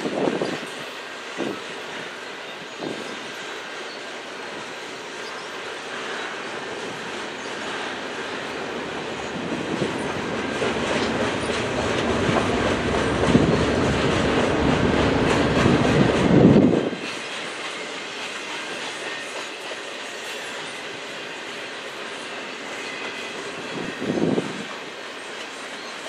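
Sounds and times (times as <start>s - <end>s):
low train rumble: 0.0s - 26.0s
train wheels clattering over rail: 0.0s - 26.0s.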